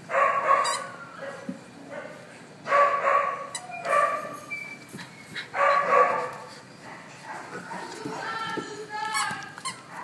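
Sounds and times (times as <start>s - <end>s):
puppies barking: 0.0s - 8.5s.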